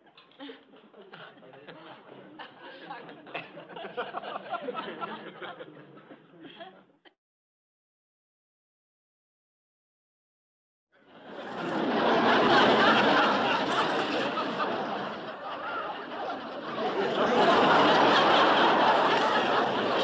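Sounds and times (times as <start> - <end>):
crowd laughing: 0.0 - 7.1, 11.0 - 20.0.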